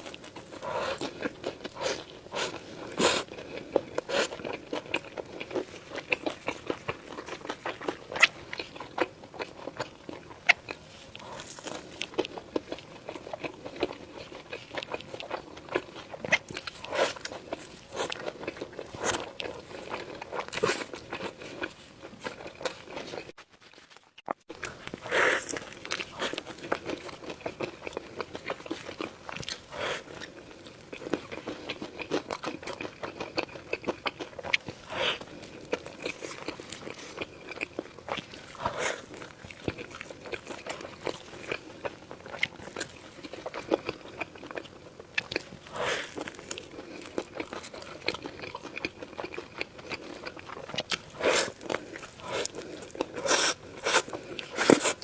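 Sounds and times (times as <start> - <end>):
person chewing: 0.0 - 55.0.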